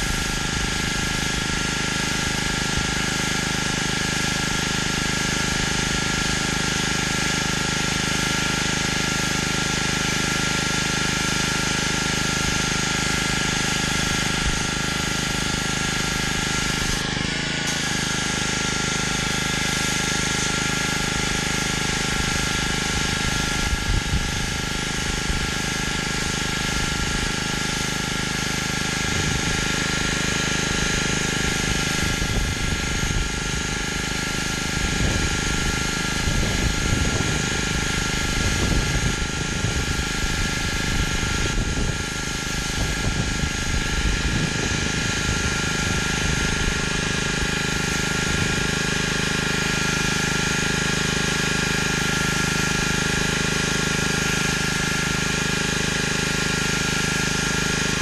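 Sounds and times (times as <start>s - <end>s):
high-pressure water spray hissing: 0.0s - 58.0s
pressure washer engine running: 0.0s - 58.0s.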